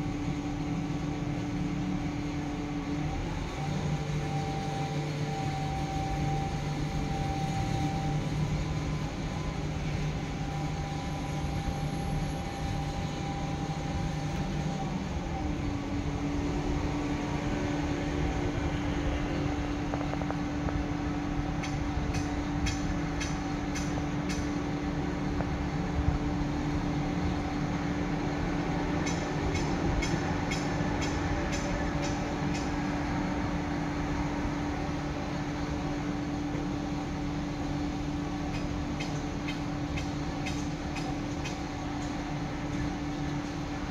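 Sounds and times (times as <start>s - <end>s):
diesel machinery droning: 0.0s - 43.9s.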